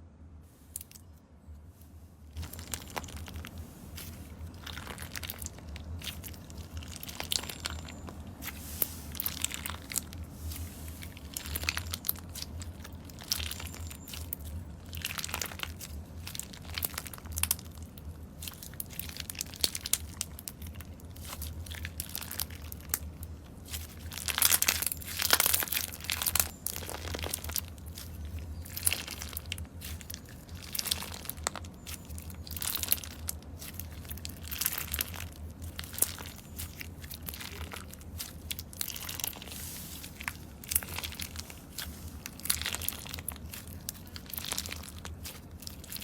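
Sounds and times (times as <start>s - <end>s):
slime crackling by hand: 2.3s - 46.0s.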